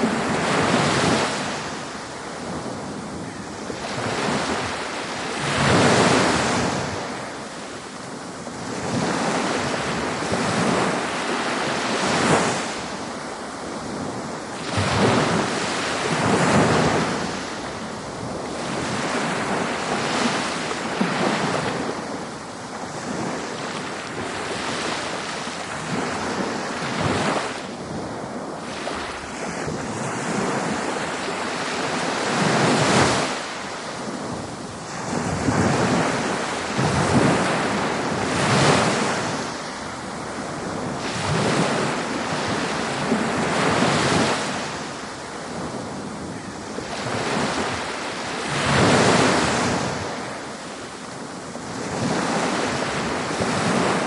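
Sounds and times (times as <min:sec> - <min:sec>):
ocean waves breaking on beach: 0:00.0 - 0:54.0
wind buffeting microphone: 0:00.0 - 0:54.0.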